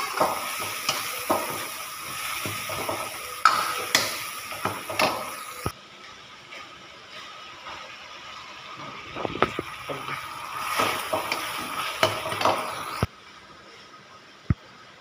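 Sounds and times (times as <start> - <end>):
food sizzling: 0.0 - 5.8, 6.7 - 13.1.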